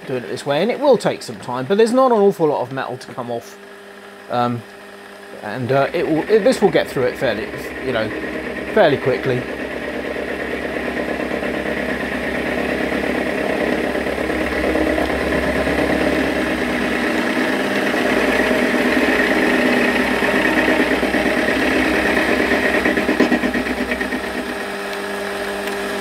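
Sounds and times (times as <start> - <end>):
lathe motor and spindle hum: 0.0 - 26.0
metal cutting noise: 4.4 - 26.0.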